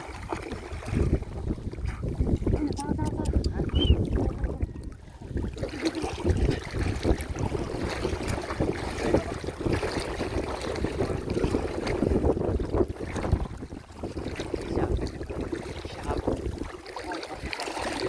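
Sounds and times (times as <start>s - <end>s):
muddy water splashing: 0.0s - 18.0s
wind buffeting microphone: 0.0s - 18.0s.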